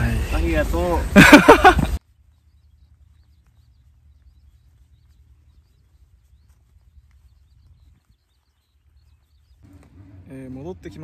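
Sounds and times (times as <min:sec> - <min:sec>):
high bird chirps: 0:01.4 - 0:11.0.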